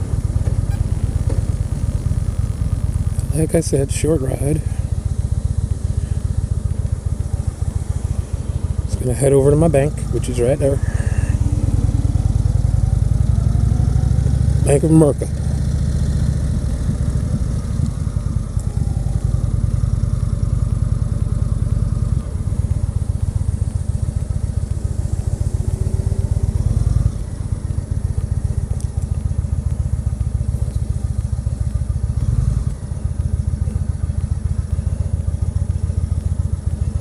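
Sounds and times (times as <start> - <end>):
motorcycle engine running at low speed: 0.0 - 37.0.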